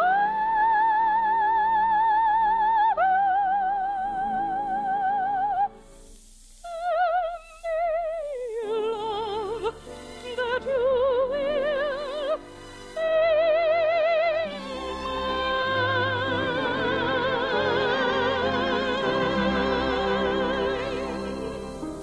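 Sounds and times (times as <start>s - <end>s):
soprano singing with vibrato: 0.0s - 5.7s, 6.6s - 22.0s
orchestra: 0.0s - 22.0s.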